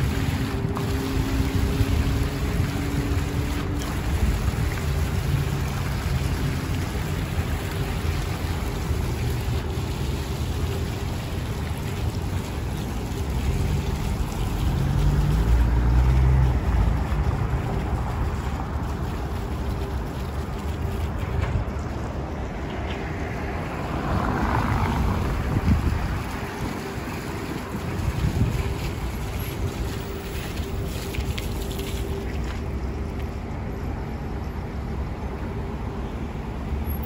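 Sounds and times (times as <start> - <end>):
fountain jets splashing: 0.0 - 37.0
road traffic: 0.0 - 37.0.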